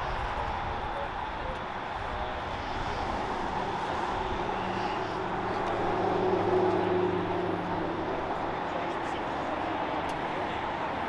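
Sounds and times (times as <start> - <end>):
outdoor crowd noise: 0.0 - 11.0
vehicle engine droning: 0.4 - 11.0.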